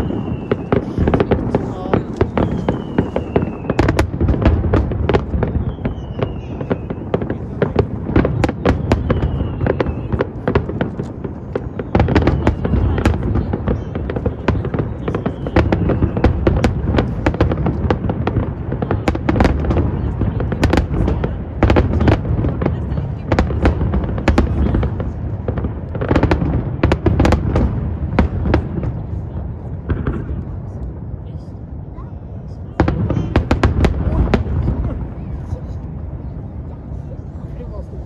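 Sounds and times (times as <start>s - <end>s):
fireworks bangs and crackling: 0.0s - 38.0s.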